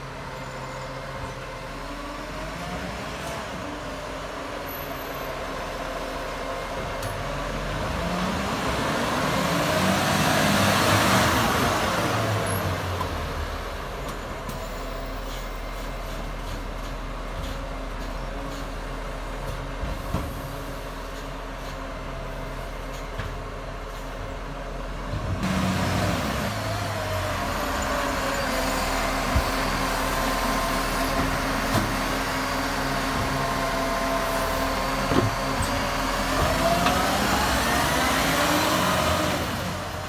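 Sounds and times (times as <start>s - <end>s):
garbage truck diesel engine: 0.0s - 40.0s.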